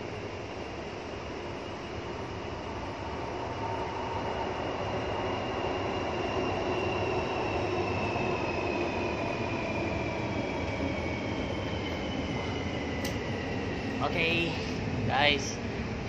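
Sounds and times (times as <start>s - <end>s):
light-rail train running: 0.0s - 16.0s.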